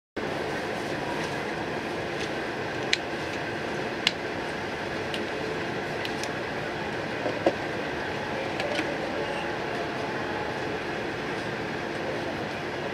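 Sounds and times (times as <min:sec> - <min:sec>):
ventilation hum: 0:00.2 - 0:12.9.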